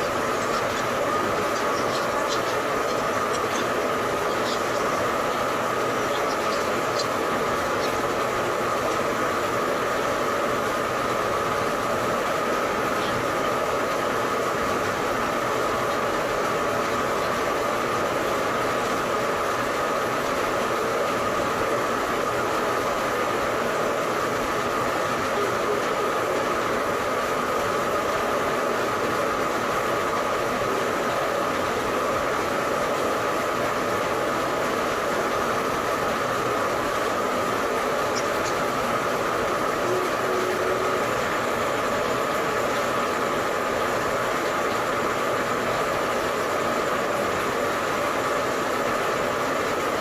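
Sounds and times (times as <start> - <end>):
mechanical running noise: 0.0 - 50.0.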